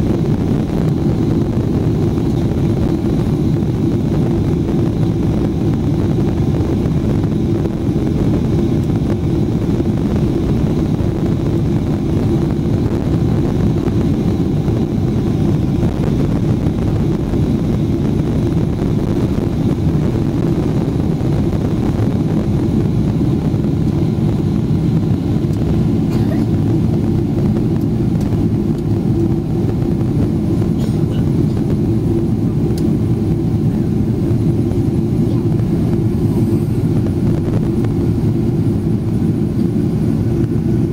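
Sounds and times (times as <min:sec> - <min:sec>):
jet engines at takeoff thrust: 0:00.0 - 0:40.9.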